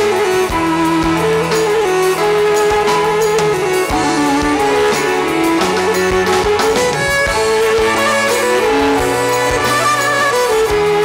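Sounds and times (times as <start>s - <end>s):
bowed fiddle folk melody: 0.0s - 11.0s
drum beat: 0.0s - 11.0s.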